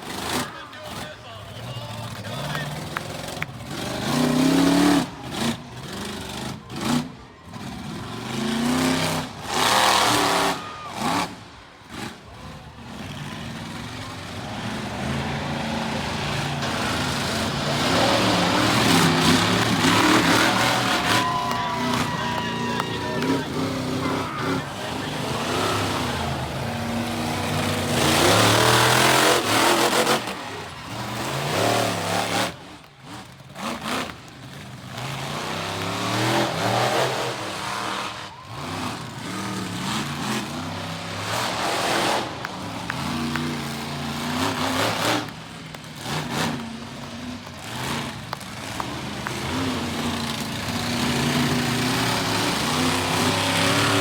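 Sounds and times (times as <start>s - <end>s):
truck engine revving hard: 0.0s - 54.0s.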